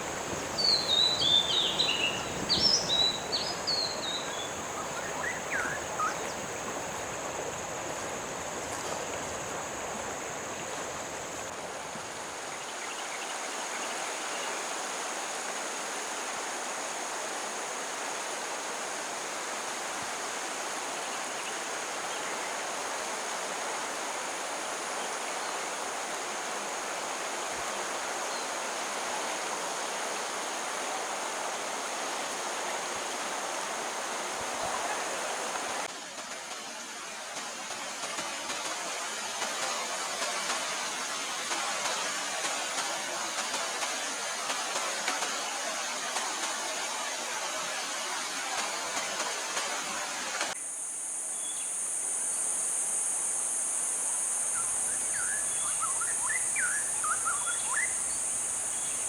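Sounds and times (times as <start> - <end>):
stream flowing: 0.0 - 50.6.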